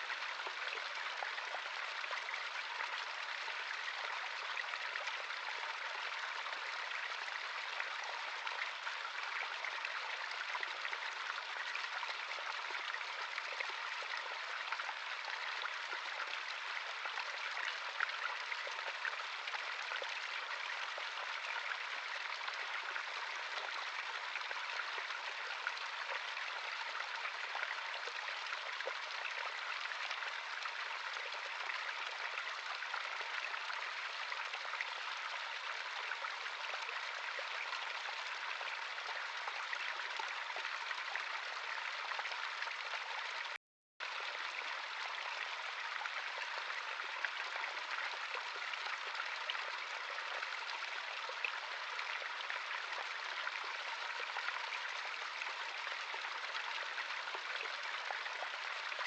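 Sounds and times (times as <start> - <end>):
stream of running water: 0.0 - 59.0.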